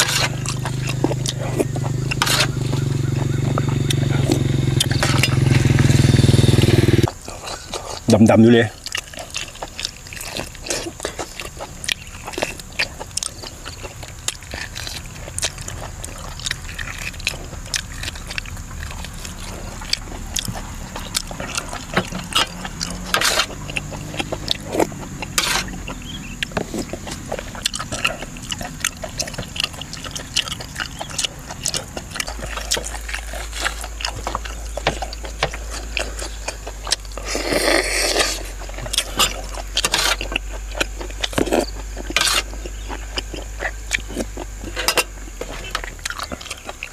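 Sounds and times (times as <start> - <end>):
wet chewing clicks and smacks: 0.0 - 46.9.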